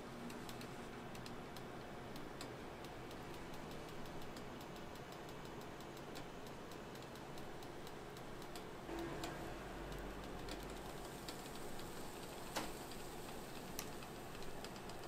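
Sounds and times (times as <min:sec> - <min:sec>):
steady low hum: 0:00.0 - 0:15.0
griddle ticks and crackles: 0:00.1 - 0:15.0.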